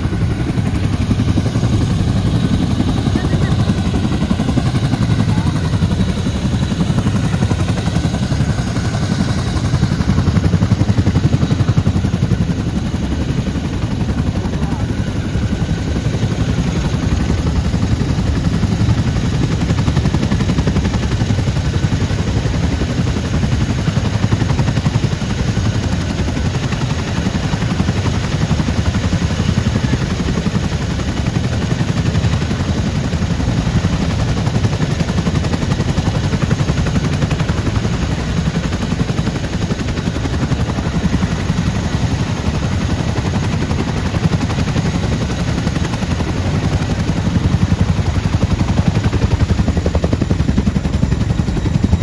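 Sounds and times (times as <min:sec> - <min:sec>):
helicopter rotors chopping: 0:00.0 - 0:52.0.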